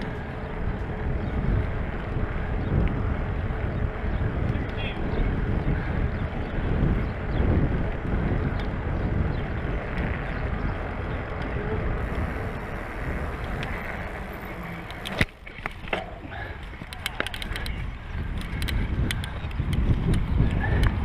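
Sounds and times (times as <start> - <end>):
bike ticks and rattles: 0.0 - 21.0
bike tyres rumbling on bricks: 0.0 - 21.0
wind on microphone: 0.0 - 21.0.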